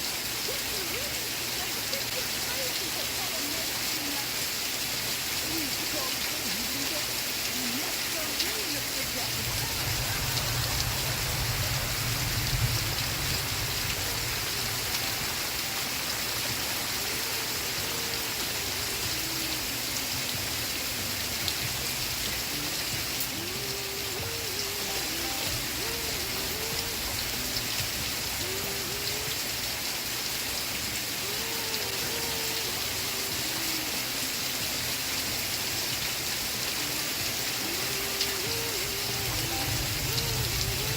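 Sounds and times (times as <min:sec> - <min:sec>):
rain hiss: 0:00.0 - 0:40.9
muffled television melody: 0:05.4 - 0:29.8, 0:30.8 - 0:40.9.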